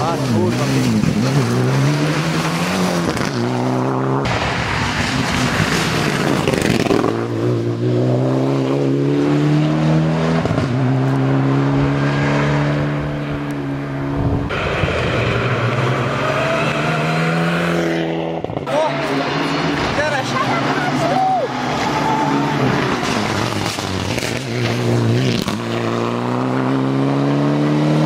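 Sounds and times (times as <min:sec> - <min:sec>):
rally car engine at full throttle: 0:00.0 - 0:28.0.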